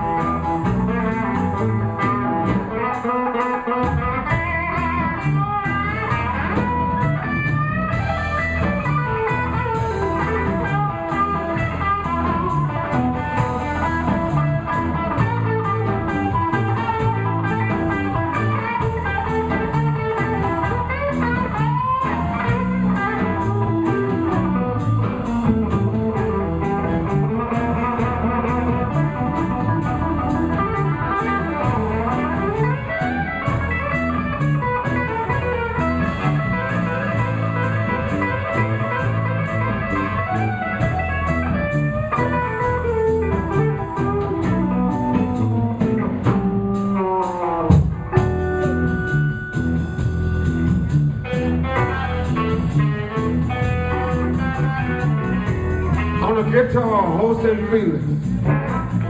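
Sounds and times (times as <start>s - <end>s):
bass: 0.0s - 59.0s
drums: 0.0s - 59.0s
electric guitar solo: 0.0s - 59.0s.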